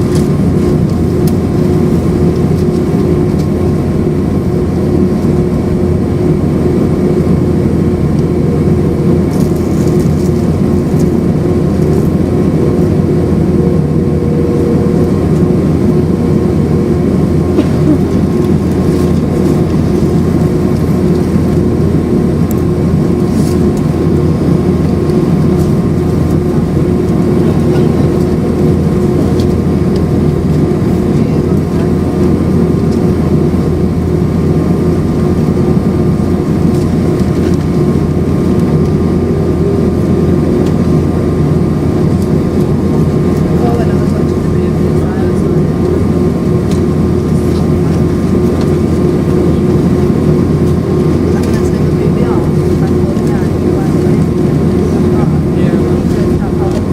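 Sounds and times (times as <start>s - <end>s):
jet engines humming in cabin: 0.0s - 56.9s.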